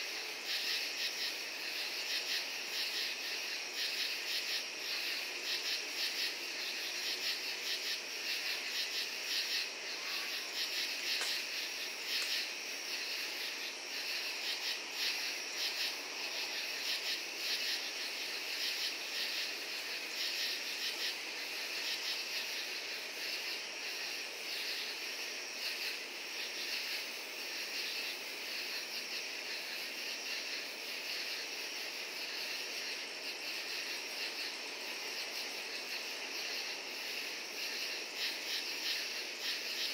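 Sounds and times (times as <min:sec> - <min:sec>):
crickets and katydids chirping: 0:00.0 - 0:39.9.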